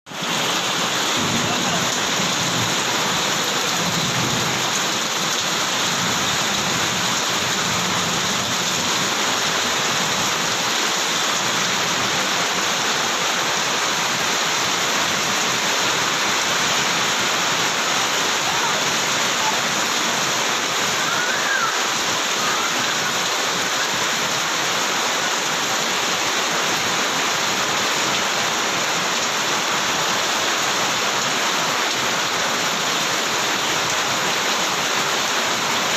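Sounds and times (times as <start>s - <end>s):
heavy rain pouring: 0.1s - 35.9s.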